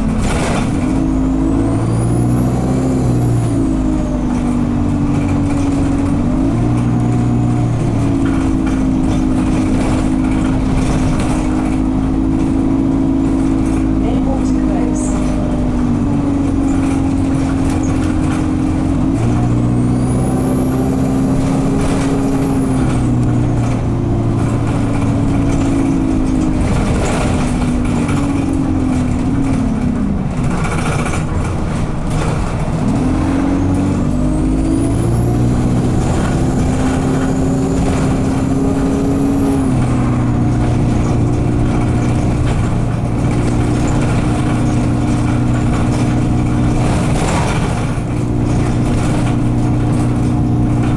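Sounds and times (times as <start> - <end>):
bus diesel engine pulling hard: 0.0 - 50.9.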